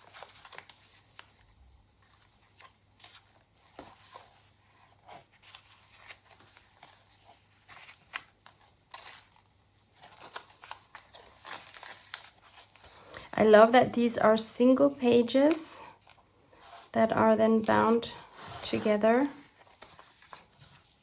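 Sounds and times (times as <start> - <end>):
paper pages rustling: 0.0 - 17.0, 17.6 - 21.0.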